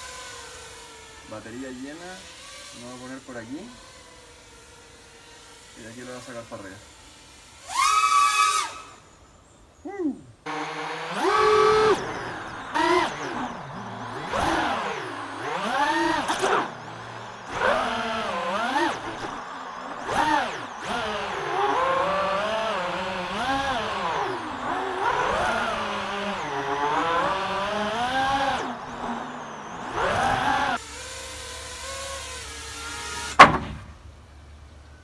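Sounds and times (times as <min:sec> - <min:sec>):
drone propellers whining: 0:00.0 - 0:35.0.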